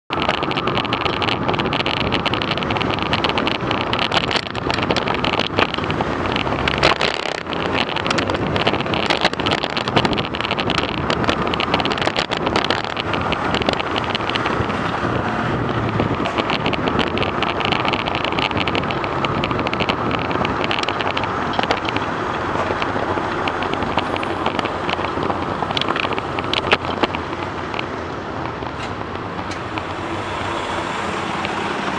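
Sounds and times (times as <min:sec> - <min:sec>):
clicks and rattles: 0:00.1 - 0:30.0
bike tyres on road: 0:00.1 - 0:31.9
car traffic: 0:00.1 - 0:31.9
wind noise on microphone: 0:00.1 - 0:31.9.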